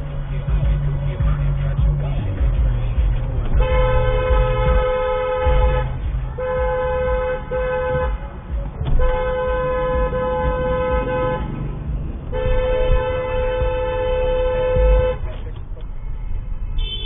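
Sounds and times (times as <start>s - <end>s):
low traffic rumble: 0.0s - 17.0s
car horn honking: 3.3s - 17.0s.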